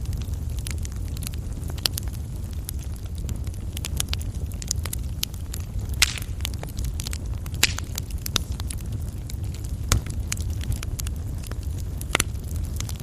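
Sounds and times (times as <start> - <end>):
coal fire crackling: 0.0 - 13.0.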